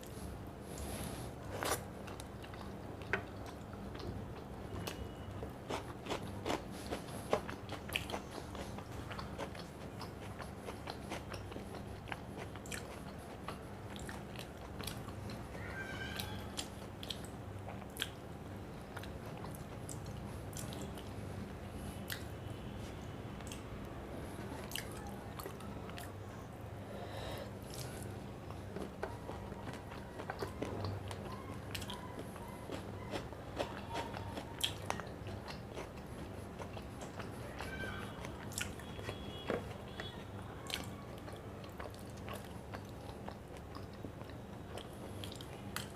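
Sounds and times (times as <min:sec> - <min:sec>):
person chewing crunchy food: 0:00.0 - 0:18.2, 0:18.9 - 0:21.2, 0:27.1 - 0:45.9.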